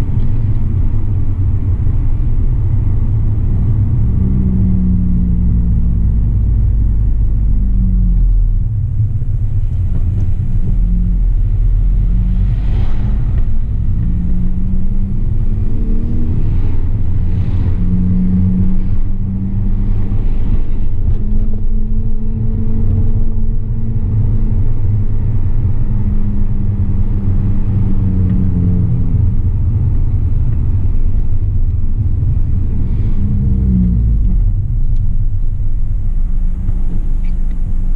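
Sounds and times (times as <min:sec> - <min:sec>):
car engine drone from inside cabin: 0:00.0 - 0:37.9.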